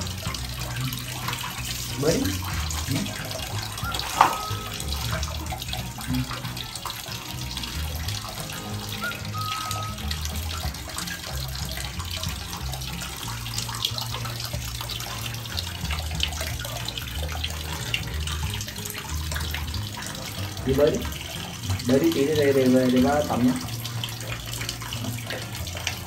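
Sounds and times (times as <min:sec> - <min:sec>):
background music with bass line: 0:00.0 - 0:26.0
water splashing and sloshing: 0:00.0 - 0:26.0.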